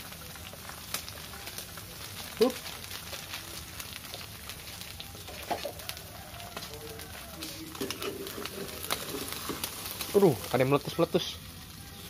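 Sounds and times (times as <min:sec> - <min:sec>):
egg sizzling in oil: 0:00.0 - 0:12.0.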